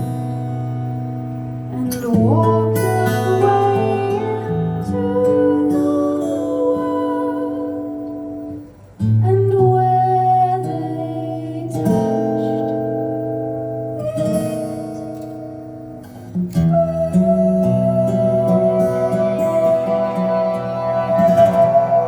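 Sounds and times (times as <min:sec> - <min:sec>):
guitar chords strummed and plucked: 0:00.0 - 0:22.0.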